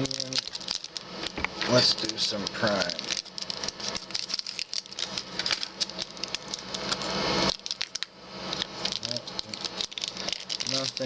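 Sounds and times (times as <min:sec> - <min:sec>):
card packs clicking and crinkling: 0:00.0 - 0:11.0.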